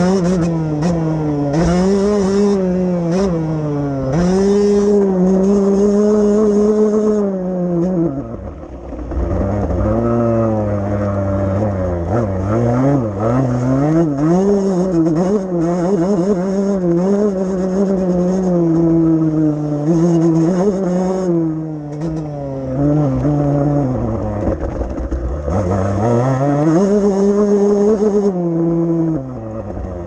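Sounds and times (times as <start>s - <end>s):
motorbike engine revving: 0.0s - 30.0s.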